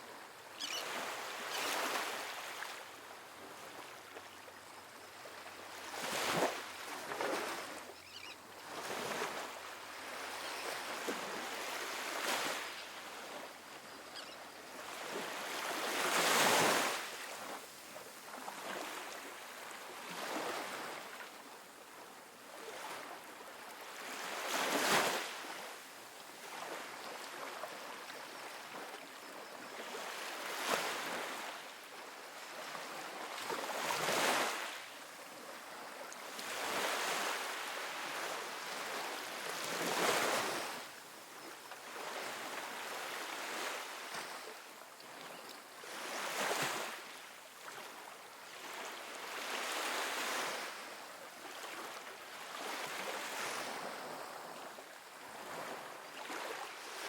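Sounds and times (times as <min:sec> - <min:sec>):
waves breaking on beach: 0:00.0 - 0:04.1, 0:05.3 - 0:07.9, 0:08.6 - 0:13.7, 0:14.7 - 0:57.0.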